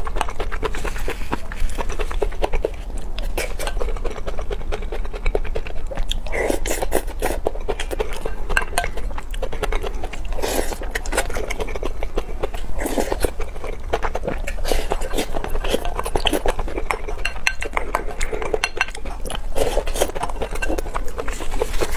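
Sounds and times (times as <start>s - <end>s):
chewing and wet mouth sounds: 0.0s - 21.9s
steady low hum: 0.0s - 21.9s.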